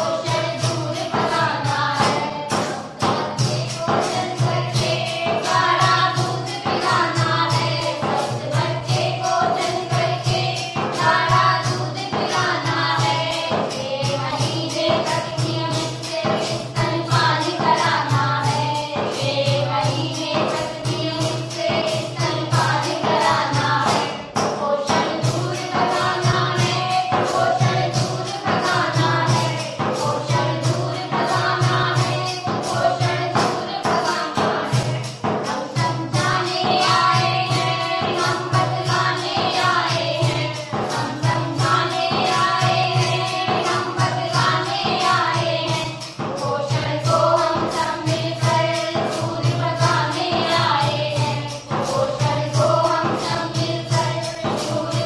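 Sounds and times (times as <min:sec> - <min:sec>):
song with singing voices and beat: 0:00.0 - 0:55.0.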